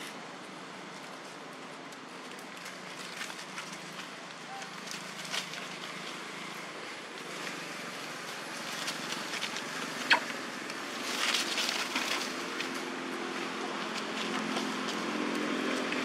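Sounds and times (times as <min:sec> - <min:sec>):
rustling in dry leaves: 0:00.0 - 0:16.0.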